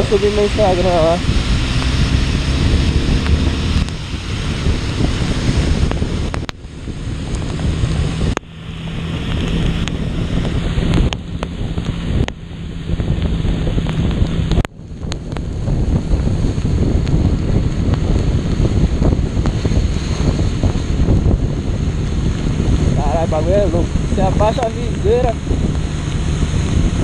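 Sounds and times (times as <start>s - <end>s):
low engine hum: 0.0s - 27.0s
wet road spray: 0.0s - 27.0s
wind buffeting microphone: 0.0s - 27.0s.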